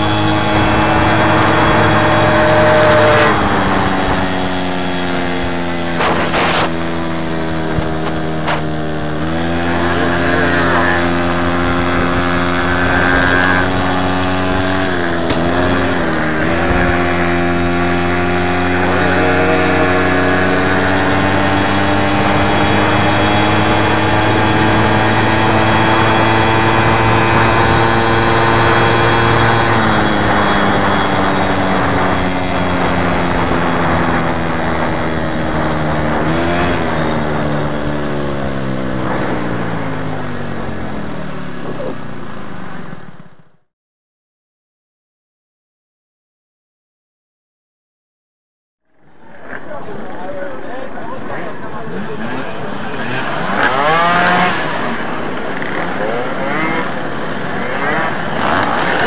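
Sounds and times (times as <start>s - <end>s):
moped engine buzzing: 0.0s - 43.7s, 48.9s - 59.0s.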